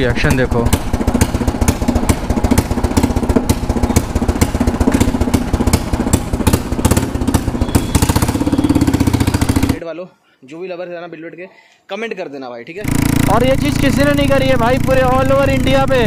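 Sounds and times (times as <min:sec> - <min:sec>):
exhaust cracks: 0:00.0 - 0:09.8, 0:12.8 - 0:16.0
motorcycle engine running loud: 0:00.0 - 0:09.8, 0:12.8 - 0:16.0.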